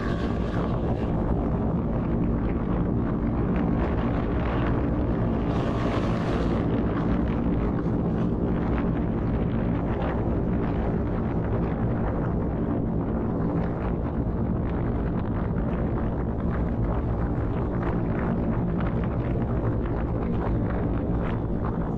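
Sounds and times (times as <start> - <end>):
wind noise on microphone: 0.0 - 21.9.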